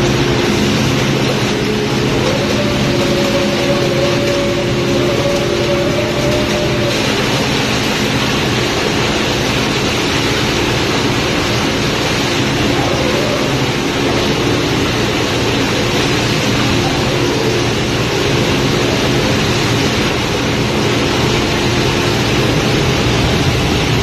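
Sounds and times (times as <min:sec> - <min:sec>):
ship machinery hum: 0:00.0 - 0:24.0
water and fish rushing down chute: 0:00.0 - 0:24.0.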